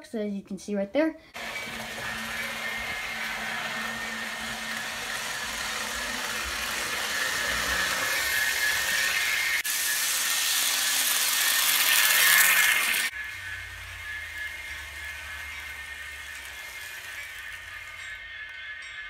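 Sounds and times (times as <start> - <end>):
model train whirring: 1.3 - 19.0.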